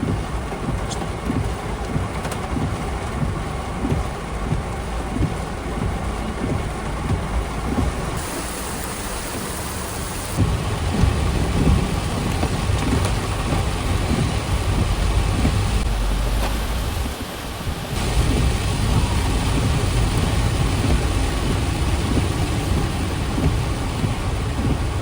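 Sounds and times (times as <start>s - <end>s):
wind rumbling on microphone: 0.0s - 25.0s
heavy rain hissing: 2.7s - 25.0s.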